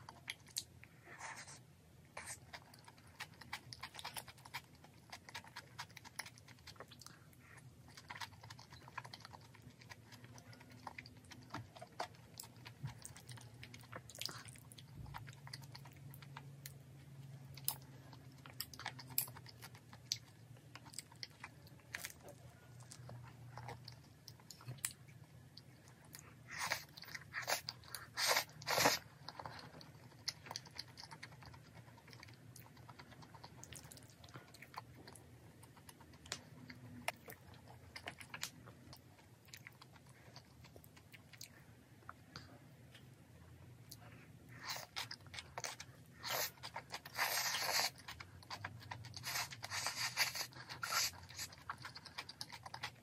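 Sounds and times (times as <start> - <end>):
person chewing food: 0.0 - 43.2, 43.8 - 53.0.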